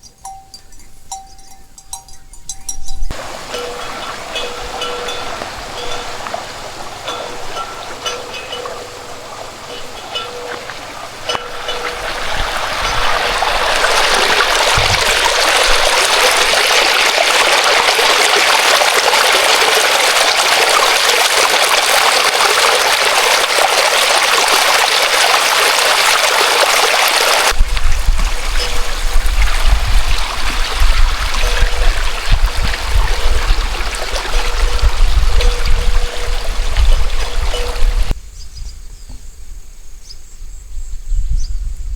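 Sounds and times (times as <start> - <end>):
stream water rushing: 3.1 - 38.2.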